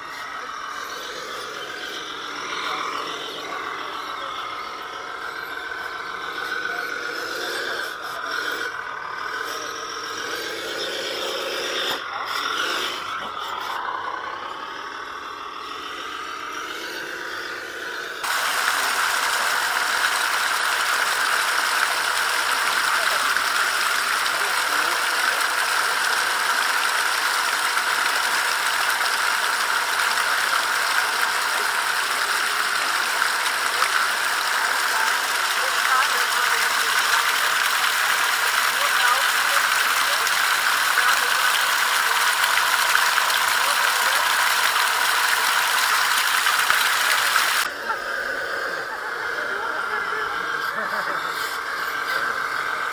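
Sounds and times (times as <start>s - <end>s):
toy truck drivetrain whining: 0.0s - 52.9s.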